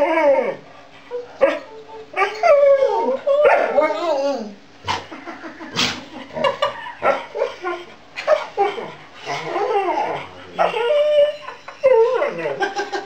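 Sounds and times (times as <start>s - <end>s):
dog whining and grumbling: 0.0s - 5.1s, 5.8s - 12.8s.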